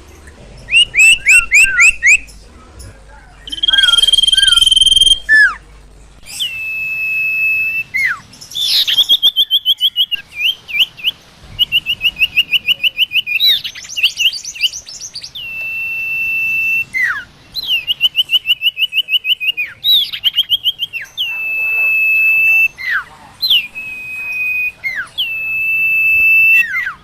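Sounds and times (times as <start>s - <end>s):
bird calling with whistles: 0.6s - 2.4s, 3.4s - 5.6s, 6.2s - 27.0s.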